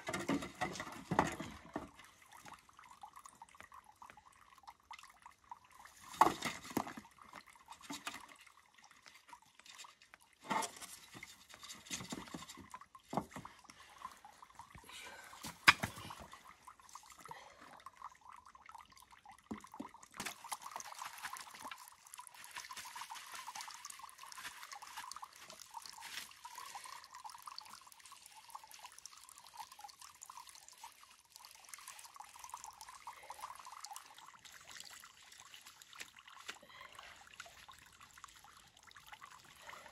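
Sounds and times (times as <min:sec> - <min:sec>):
water dripping and sloshing: 0:00.0 - 0:39.9.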